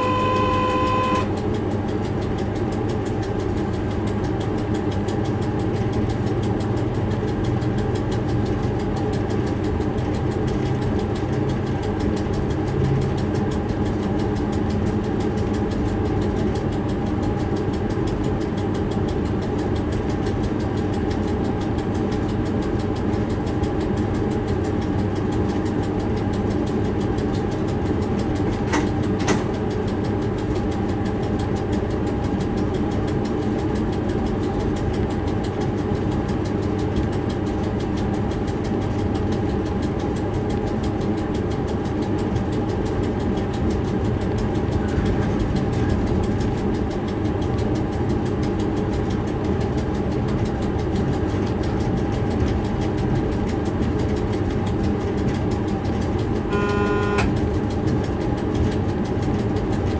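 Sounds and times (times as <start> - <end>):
locomotive engine drone: 0.0 - 59.9
sharp clicks: 0.0 - 59.9.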